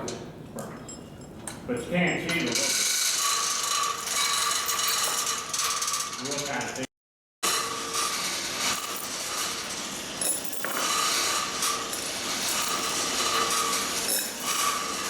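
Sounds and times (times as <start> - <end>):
chain hoist clatter: 0.9 - 6.9, 7.5 - 15.0.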